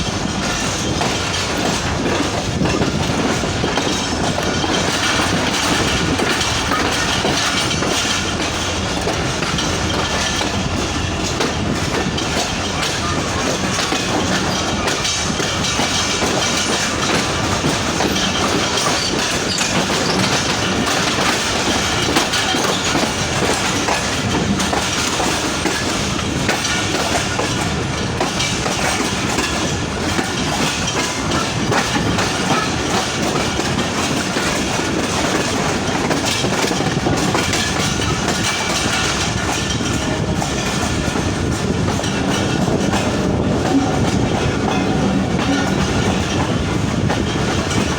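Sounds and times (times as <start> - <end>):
train wheels clattering over rail joints: 0.0 - 47.9.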